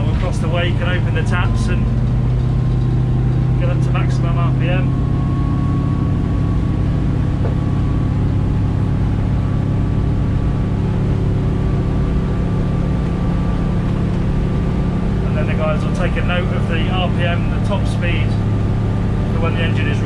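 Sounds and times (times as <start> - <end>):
boat diesel engine droning: 0.0 - 20.0.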